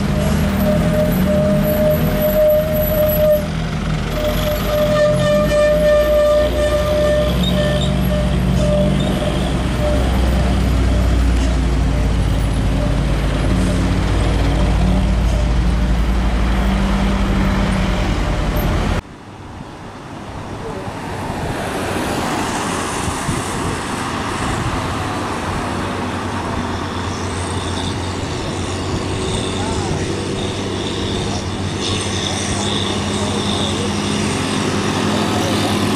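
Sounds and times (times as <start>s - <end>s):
truck diesel engine straining: 0.0s - 19.3s, 22.1s - 35.9s
road noise: 0.0s - 35.9s.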